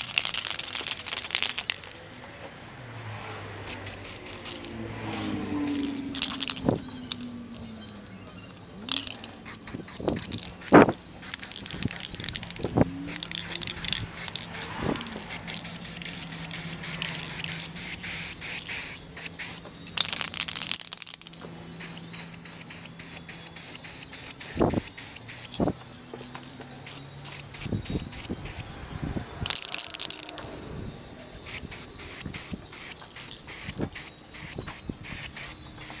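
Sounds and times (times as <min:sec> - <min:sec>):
spray paint can hissing: 0:00.0 - 0:28.7, 0:29.3 - 0:36.0.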